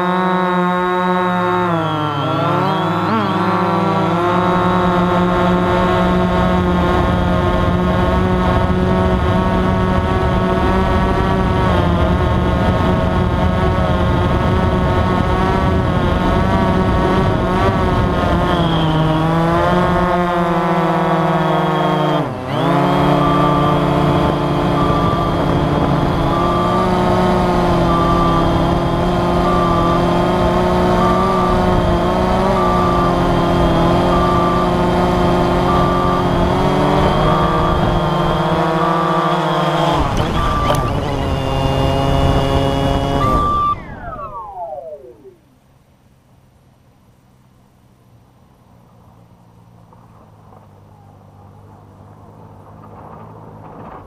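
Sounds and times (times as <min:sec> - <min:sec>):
drone motors and propellers humming: 0:00.0 - 0:54.0.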